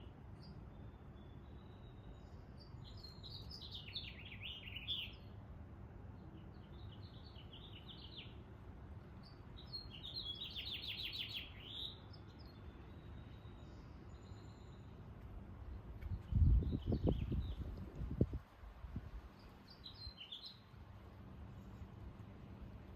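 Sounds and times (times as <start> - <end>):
songbird chirping: 0.0 - 22.9.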